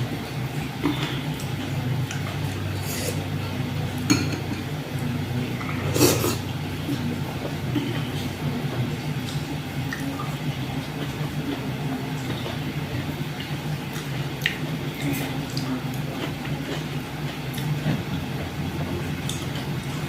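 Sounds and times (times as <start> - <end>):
steady low hum: 0.0 - 20.0
chewing food: 0.1 - 4.1, 4.9 - 20.0.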